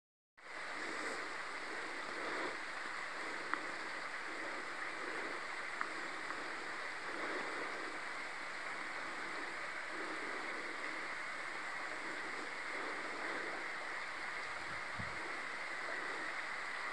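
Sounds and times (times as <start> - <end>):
rushing outdoor ambience: 0.4 - 16.9.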